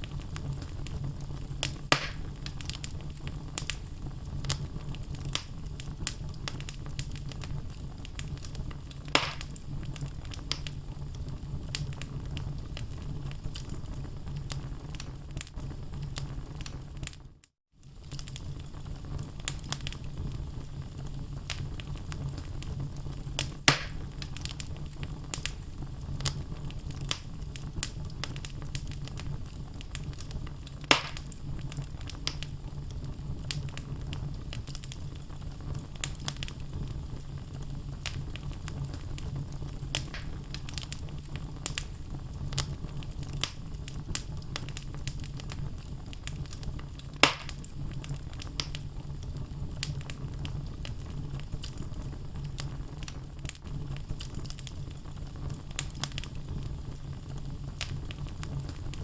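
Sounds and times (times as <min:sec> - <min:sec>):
loud fire pops: 0:00.0 - 0:17.2, 0:17.8 - 0:59.0
fire crackling: 0:00.0 - 0:59.0
logs burning in a fireplace: 0:00.0 - 0:59.0.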